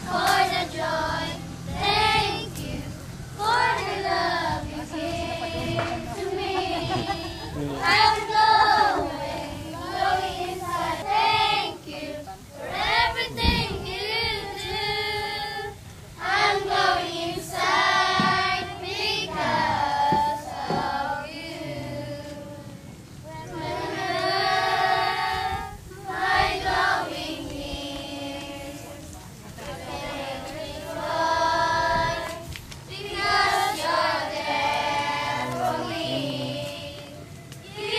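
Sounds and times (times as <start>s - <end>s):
girls singing together: 0.0s - 37.9s.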